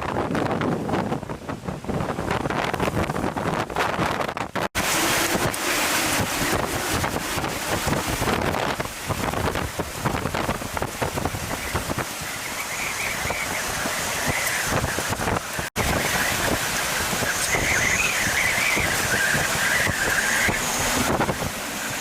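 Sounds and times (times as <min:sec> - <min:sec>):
hurricane wind gusting: 0:00.0 - 0:22.0.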